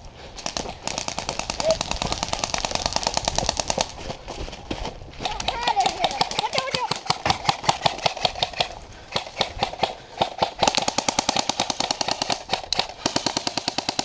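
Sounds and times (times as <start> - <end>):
airsoft guns firing full-auto: 0.4 - 4.0, 5.2 - 14.0.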